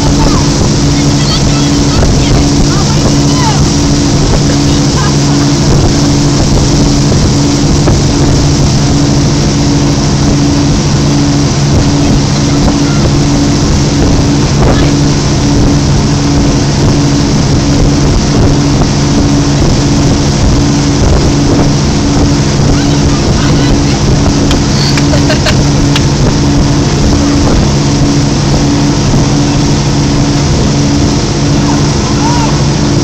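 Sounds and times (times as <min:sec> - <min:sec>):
churning wake water: 0:00.0 - 0:33.0
motorboat engine drone: 0:00.0 - 0:33.0
wind rushing: 0:00.0 - 0:33.0.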